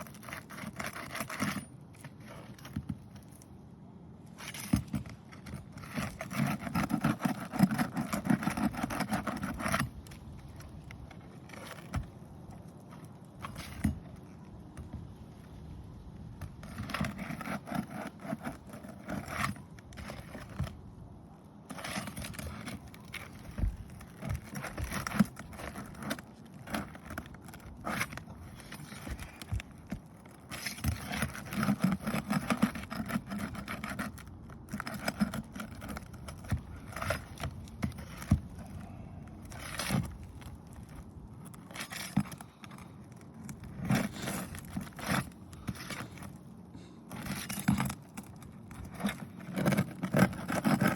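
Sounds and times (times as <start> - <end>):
pry tool scraping shingles: 0.0 - 50.9.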